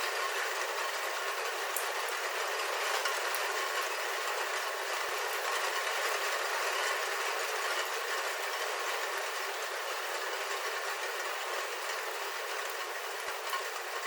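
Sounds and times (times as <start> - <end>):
rain falling on a roof: 0.0 - 14.0.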